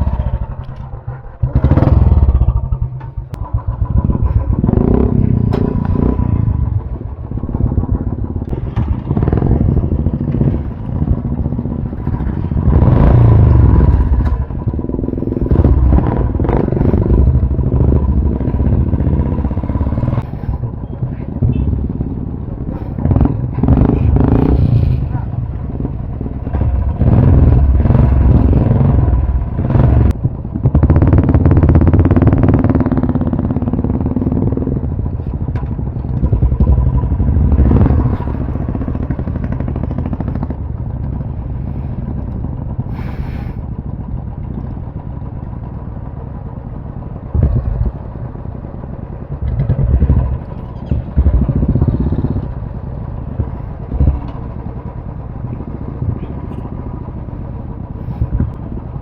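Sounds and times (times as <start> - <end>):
motorcycle engines running: 0.0 - 59.0.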